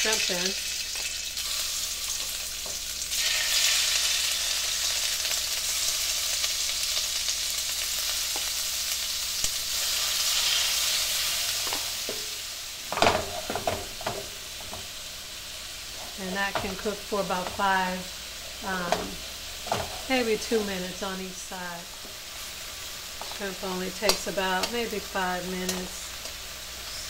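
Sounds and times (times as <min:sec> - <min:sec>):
shrimp sizzling in a wok: 0:00.0 - 0:27.0.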